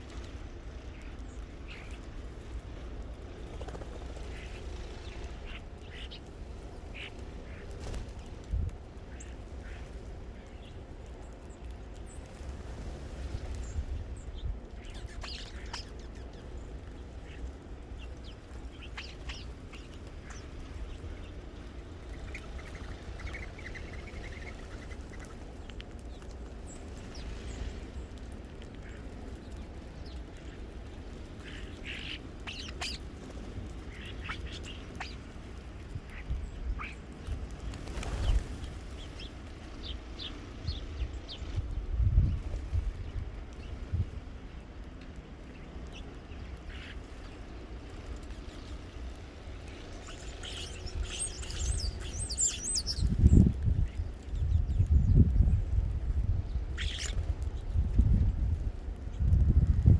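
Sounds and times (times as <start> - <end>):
birds chirping and calling: 0.1 - 55.7, 56.4 - 58.2.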